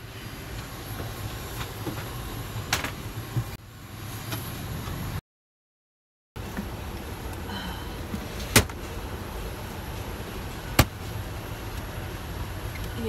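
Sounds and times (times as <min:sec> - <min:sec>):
low aircraft cabin rumble: 0:00.0 - 0:05.2, 0:06.4 - 0:13.0.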